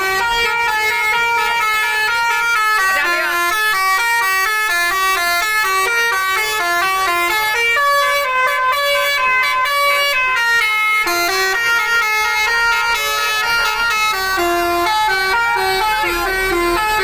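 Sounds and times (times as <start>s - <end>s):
bus multi-tone air horn melody: 0.0s - 17.0s.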